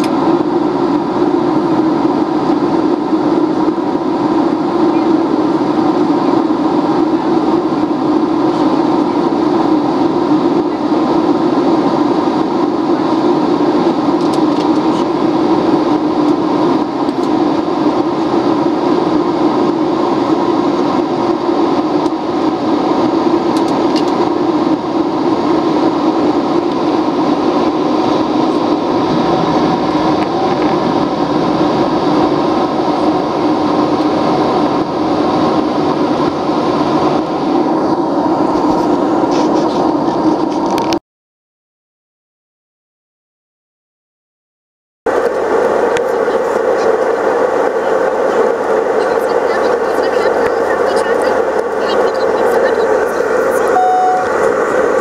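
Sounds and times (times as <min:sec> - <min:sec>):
jet airliner cabin drone: 0:00.0 - 0:41.0, 0:45.1 - 0:55.0.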